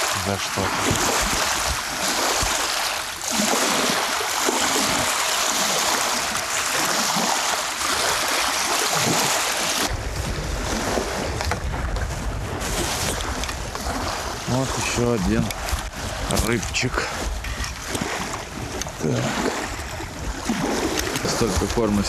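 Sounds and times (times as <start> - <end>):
wind buffeting microphone: 0.0 - 5.2, 5.8 - 22.0
stormy wind: 0.0 - 6.6, 7.2 - 22.0
choppy waves: 0.0 - 22.0.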